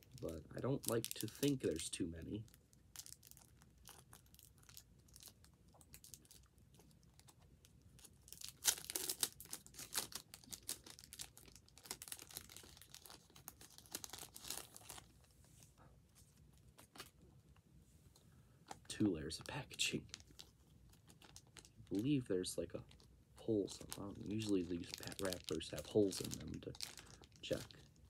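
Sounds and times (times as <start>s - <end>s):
plastic wrapper crinkling and tearing: 0.0s - 15.3s, 16.6s - 17.2s, 19.3s - 28.0s.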